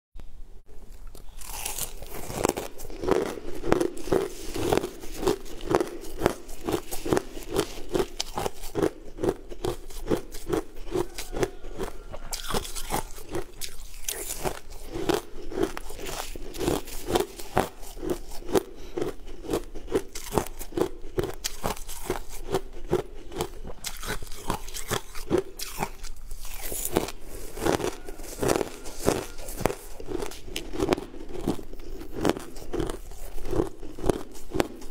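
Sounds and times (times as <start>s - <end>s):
chewing crunchy ice: 0.8s - 34.9s.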